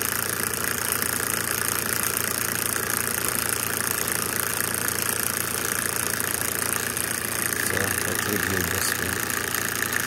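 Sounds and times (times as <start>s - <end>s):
electric motor running fast: 0.0s - 10.0s.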